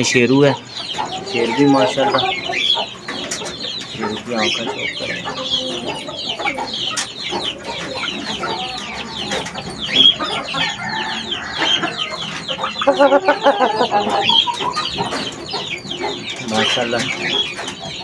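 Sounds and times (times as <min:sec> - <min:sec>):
chicken clucking: 0:00.0 - 0:18.0
chicks peeping: 0:00.0 - 0:18.0.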